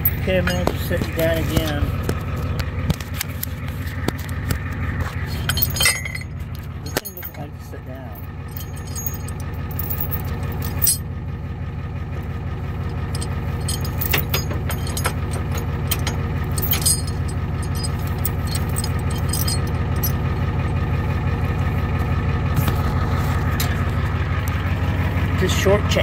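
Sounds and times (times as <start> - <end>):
tow truck engine running: 0.0 - 26.0.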